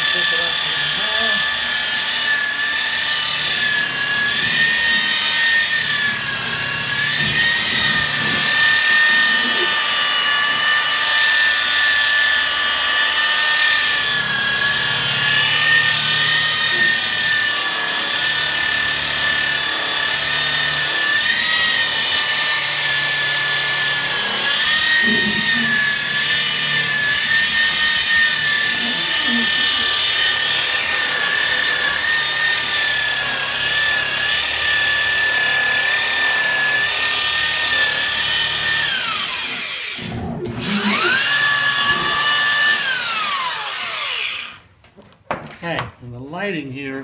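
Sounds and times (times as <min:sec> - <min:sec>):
rotary polisher whining: 0:00.0 - 0:44.8.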